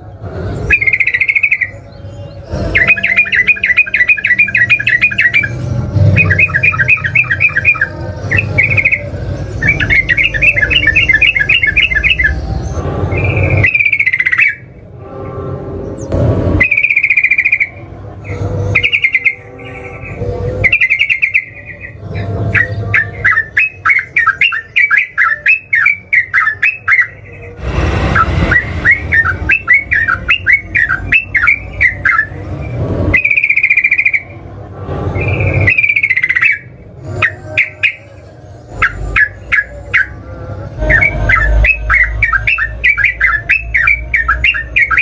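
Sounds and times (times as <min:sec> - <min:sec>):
bird chattering song: 0:00.6 - 0:14.7, 0:15.9 - 0:27.6, 0:28.2 - 0:34.3, 0:35.2 - 0:40.2, 0:40.8 - 0:45.0.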